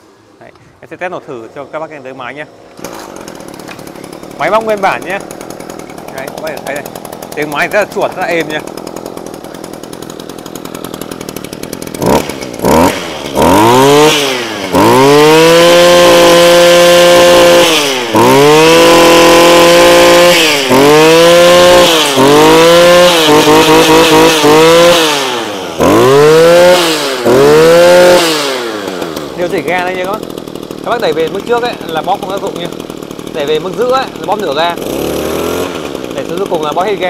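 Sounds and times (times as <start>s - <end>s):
brush cutter engine revving: 1.4s - 37.0s.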